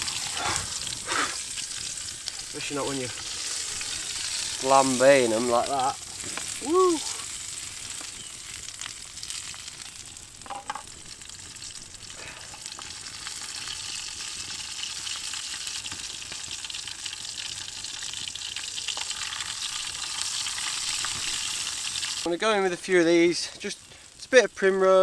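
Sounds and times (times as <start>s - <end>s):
mushrooms sizzling in a pan: 0.0s - 25.0s.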